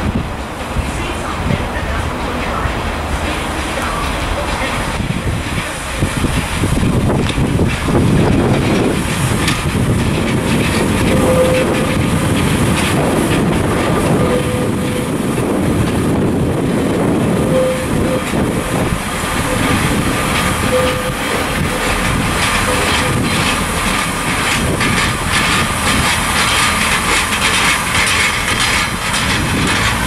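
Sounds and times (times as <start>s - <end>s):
diesel train running past: 0.0s - 30.0s
wheels clicking over rail joints: 0.0s - 30.0s.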